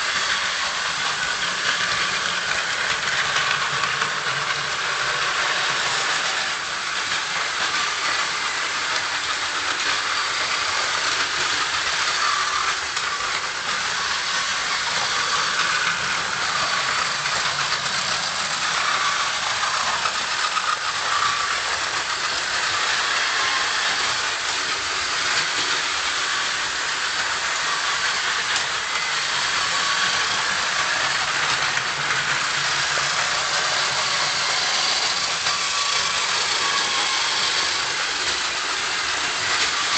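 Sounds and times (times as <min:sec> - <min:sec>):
whir of toy train motors: 0:00.0 - 0:39.9
wheels rattling over track joints: 0:00.4 - 0:39.9.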